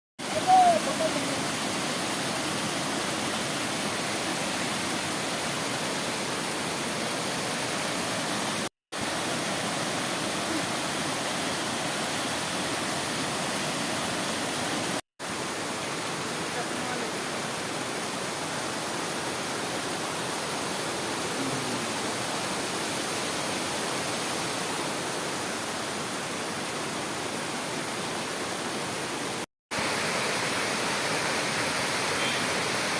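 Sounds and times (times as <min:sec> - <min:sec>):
waterfall roaring: 0:00.2 - 0:32.9.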